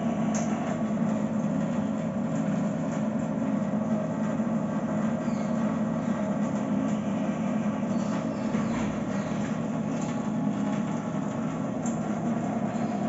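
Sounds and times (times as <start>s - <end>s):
water pump humming: 0.0s - 13.0s.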